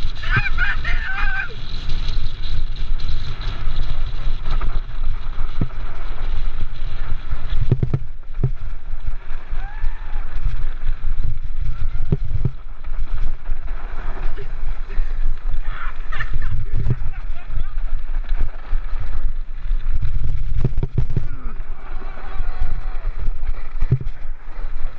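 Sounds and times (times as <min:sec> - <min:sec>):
cart wheels rolling over gravel: 0:00.0 - 0:24.9.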